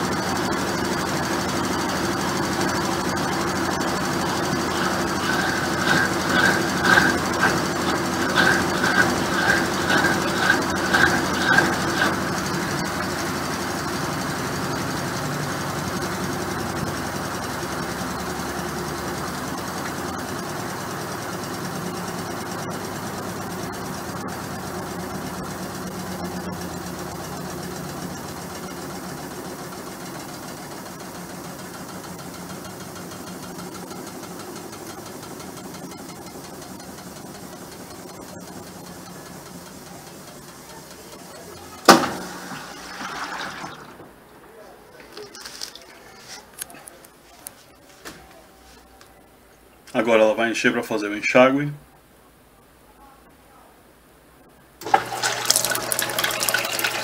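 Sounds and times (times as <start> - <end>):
washing machine spin hum: 0.0 - 47.0, 54.8 - 57.0.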